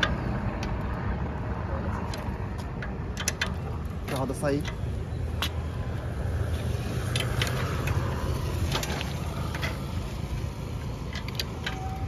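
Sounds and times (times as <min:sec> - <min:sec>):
metal clicks of bicycle wheel: 0:00.0 - 0:01.0, 0:02.1 - 0:12.0
low outdoor rumble: 0:00.0 - 0:12.0.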